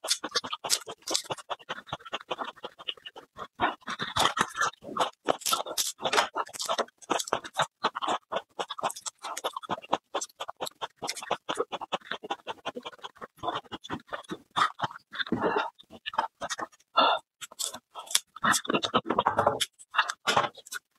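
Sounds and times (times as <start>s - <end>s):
chewing raw garlic: 0.0s - 20.9s.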